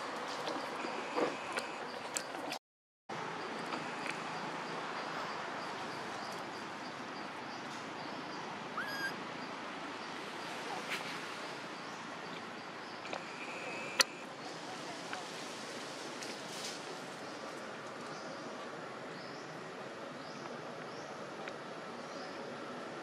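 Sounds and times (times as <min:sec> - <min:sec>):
forest background hiss: 0:03.1 - 0:23.0.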